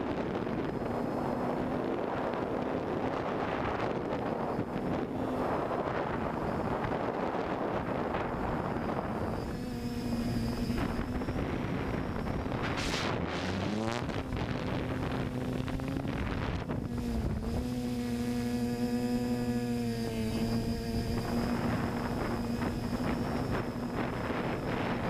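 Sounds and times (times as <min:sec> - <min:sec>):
quadcopter motors whining: 0:00.0 - 0:25.0
wind buffeting microphone: 0:00.0 - 0:25.0.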